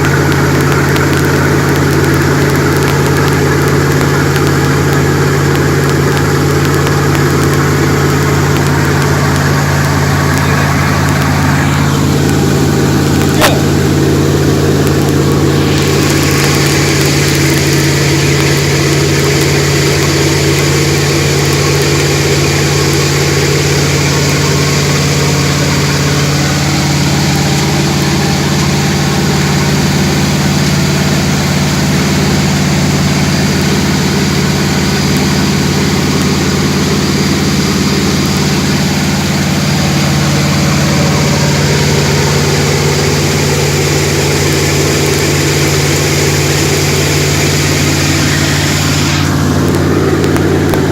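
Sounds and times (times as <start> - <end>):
jet boat engine hum: 0.0 - 50.9.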